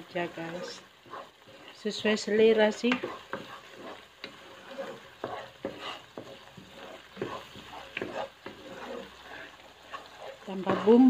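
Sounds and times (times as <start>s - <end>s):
paste sizzling: 0.0s - 11.0s
spatula scraping and tapping pot: 0.2s - 11.0s.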